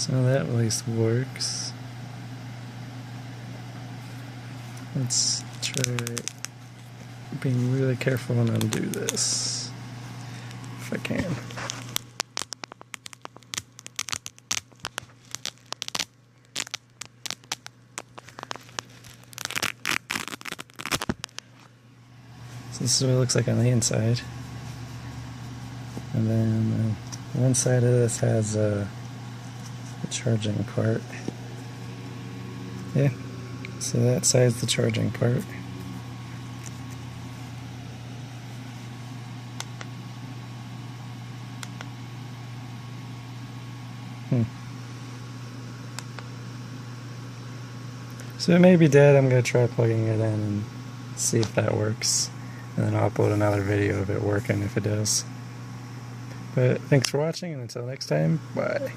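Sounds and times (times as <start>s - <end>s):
faint low hum: 0.0s - 58.9s.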